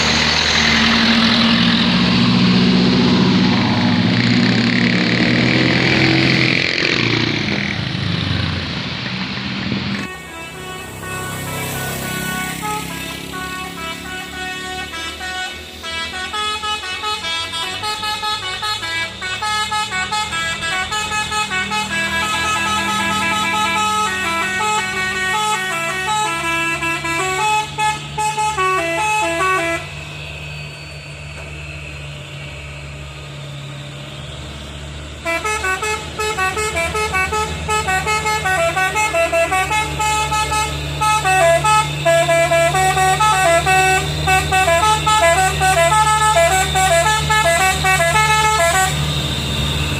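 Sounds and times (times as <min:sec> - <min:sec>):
diesel engines rumbling: 0:00.0 - 0:49.9
musical multi-tone truck horn: 0:00.0 - 0:49.9.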